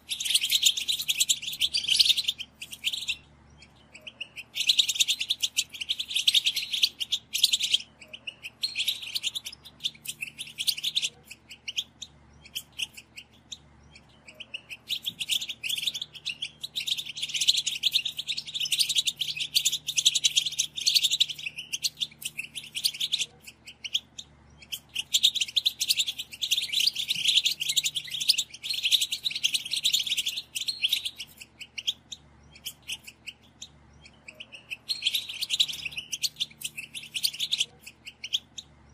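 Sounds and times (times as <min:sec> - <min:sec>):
goldfinches twittering: 0:00.0 - 0:38.9.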